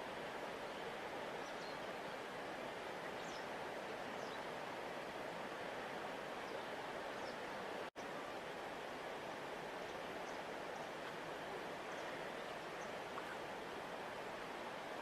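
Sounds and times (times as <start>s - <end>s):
large river flowing: 0.0s - 15.0s.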